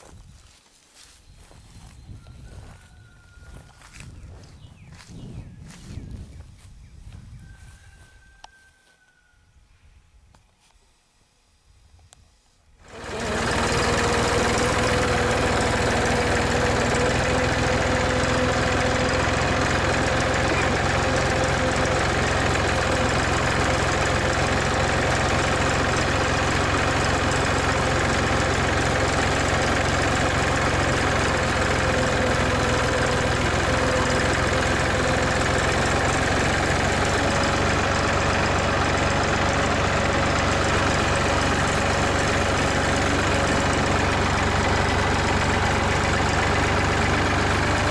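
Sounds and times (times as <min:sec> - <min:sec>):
tractor diesel engine running: 0:00.0 - 0:08.6, 0:12.7 - 0:47.9.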